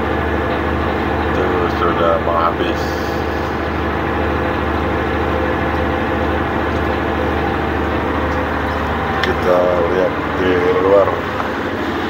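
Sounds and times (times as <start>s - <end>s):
diesel boat engine droning: 0.0s - 12.0s.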